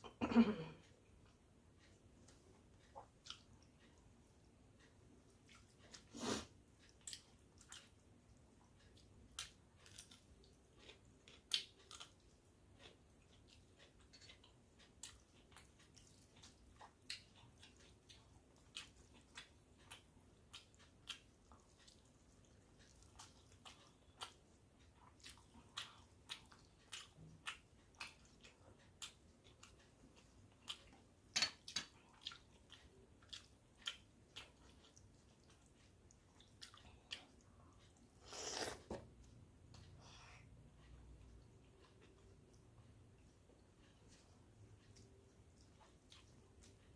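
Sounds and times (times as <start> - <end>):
person chewing wet rice: 0.8 - 46.9.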